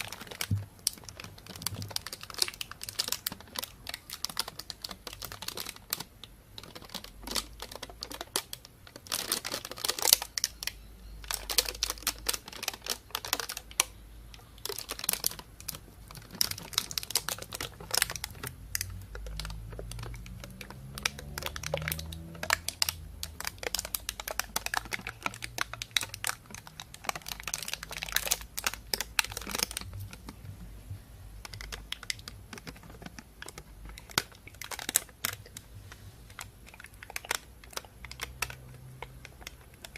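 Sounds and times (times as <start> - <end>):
plastic bag crinkling: 0.0 - 30.7, 31.4 - 39.9.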